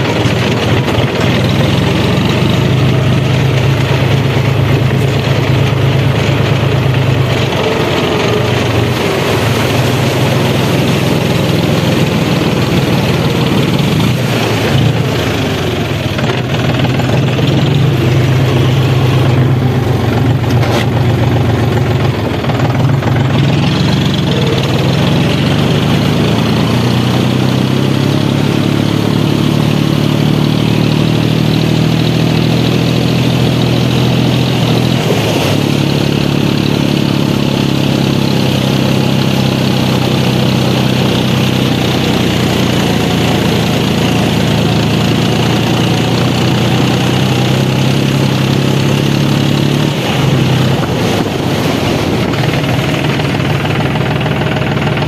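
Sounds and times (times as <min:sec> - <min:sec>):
tractor diesel engine running: 0:00.0 - 0:55.0
water splashing: 0:00.0 - 0:55.0.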